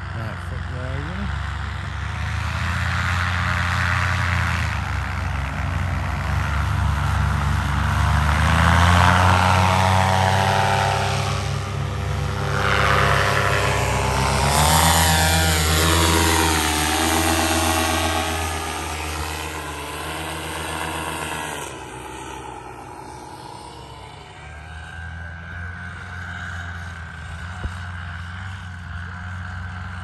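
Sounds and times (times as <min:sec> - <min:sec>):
paramotor engines buzzing: 0:00.0 - 0:30.0.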